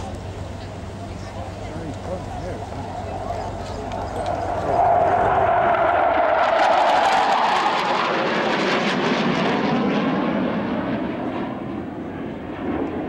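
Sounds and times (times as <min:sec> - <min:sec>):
jets flying past: 0:02.2 - 0:13.0.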